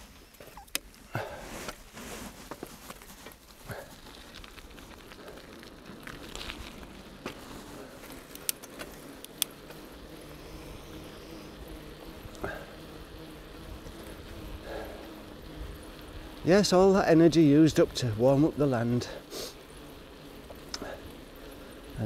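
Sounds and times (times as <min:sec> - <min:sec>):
bicycle rattling and clicking: 0:02.6 - 0:10.9, 0:11.9 - 0:22.0.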